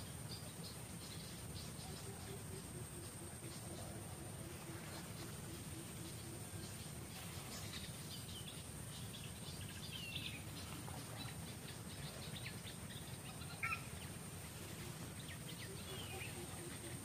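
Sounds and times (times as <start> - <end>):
birds chirping: 0.0 - 17.0
low background hum: 0.0 - 17.0.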